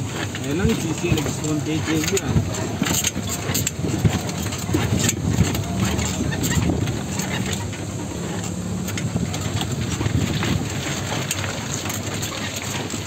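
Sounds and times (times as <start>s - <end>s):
knocks and rattles: 0.0s - 13.0s
vehicle engine running: 0.0s - 13.0s.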